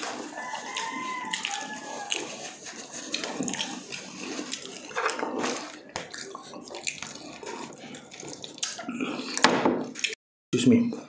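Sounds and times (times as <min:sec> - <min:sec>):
wet chewing of fried chicken: 0:00.0 - 0:10.2.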